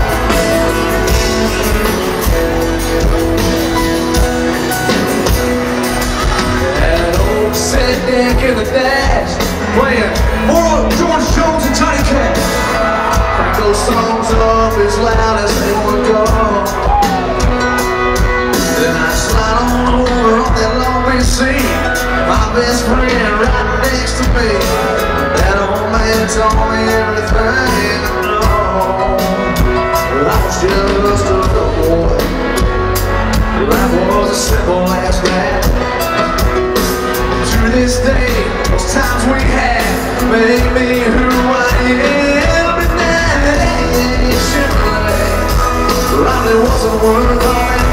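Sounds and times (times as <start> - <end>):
drums: 0.0 - 47.9
electric guitars: 0.0 - 47.9
keyboard: 0.0 - 47.9
man singing: 0.0 - 47.9.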